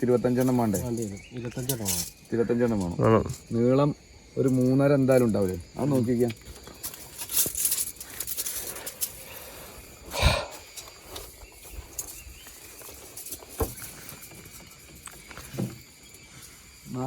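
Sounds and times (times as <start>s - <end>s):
wooden poles rustling and scraping: 0.0s - 17.0s.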